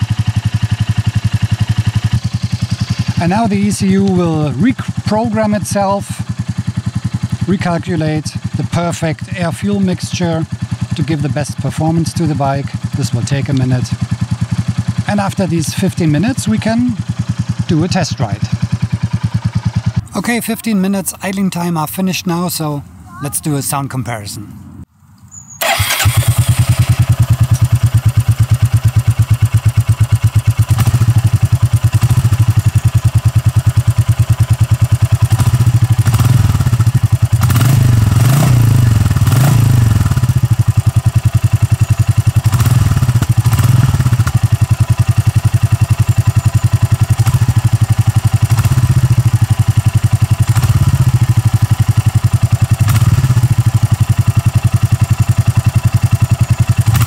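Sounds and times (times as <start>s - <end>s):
motorcycle engine idling: 0.0s - 22.0s, 25.6s - 57.0s.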